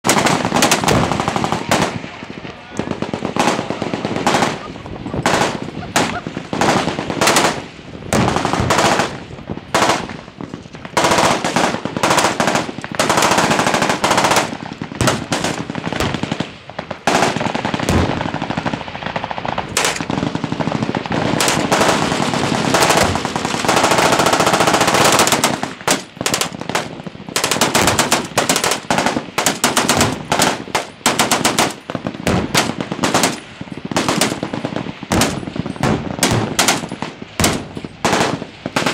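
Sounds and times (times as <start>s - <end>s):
machine guns firing: 0.0s - 2.2s, 2.8s - 38.9s.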